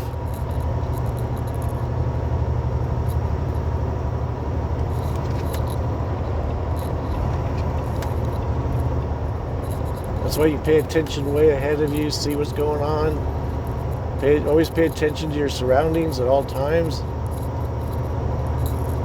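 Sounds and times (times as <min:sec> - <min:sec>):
diesel truck engine drone: 0:00.0 - 0:19.0
road noise: 0:00.0 - 0:19.0.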